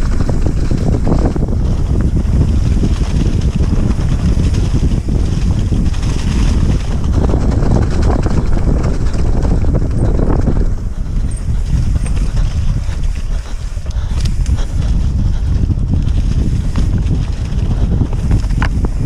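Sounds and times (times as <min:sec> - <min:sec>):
bike rattling and clicking: 0:00.0 - 0:19.0
tyre rumble: 0:00.0 - 0:19.0
wind buffeting microphone: 0:00.0 - 0:19.0.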